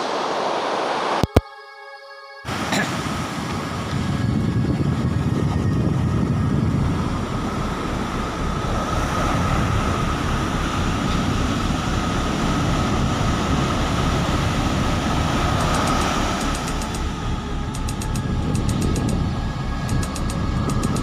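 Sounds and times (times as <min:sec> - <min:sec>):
ocean surf breaking: 0:00.0 - 0:01.4, 0:02.5 - 0:21.0.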